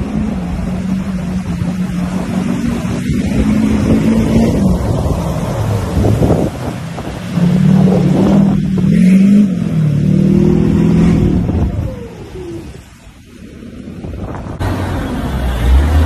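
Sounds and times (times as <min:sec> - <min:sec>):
truck engine pulling hard: 0:00.0 - 0:13.1, 0:13.8 - 0:16.0
wind on microphone: 0:00.0 - 0:14.8.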